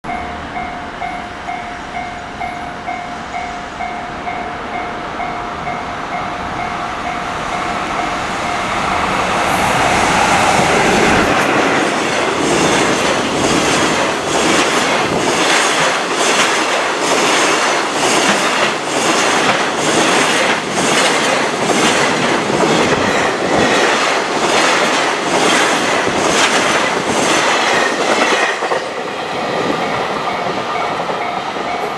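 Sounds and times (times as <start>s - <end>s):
freight train passing: 0.0s - 31.9s.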